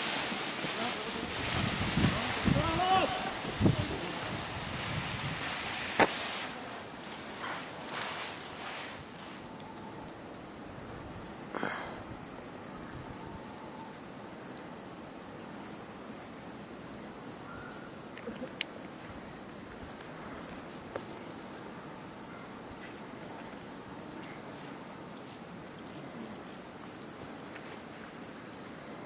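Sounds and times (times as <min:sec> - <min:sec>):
insects buzzing shrilly: 0:00.0 - 0:29.0.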